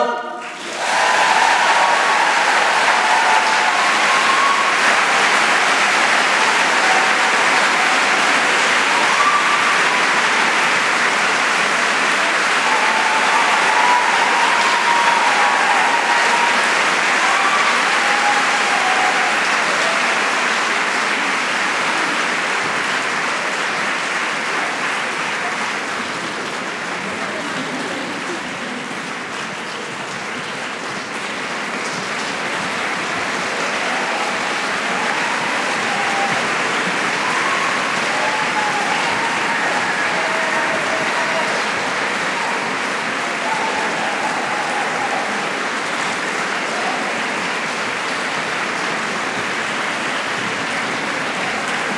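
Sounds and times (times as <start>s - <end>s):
audience applauding: 0.0s - 51.9s
cheers: 0.0s - 51.9s.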